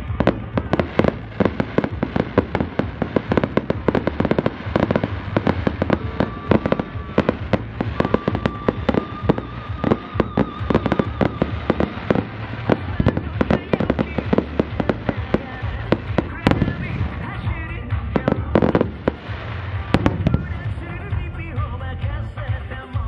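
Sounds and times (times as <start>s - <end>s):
fireworks bursts: 0.0s - 22.1s.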